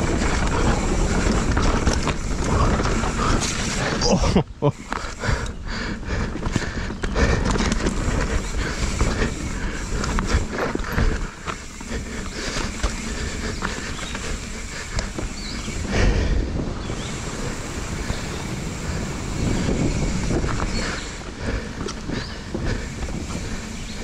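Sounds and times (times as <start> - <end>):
bike chain and frame rattling: 0.0 - 24.0
bike tyres rumbling over dirt: 0.0 - 24.0
wind noise on microphone: 0.0 - 24.0.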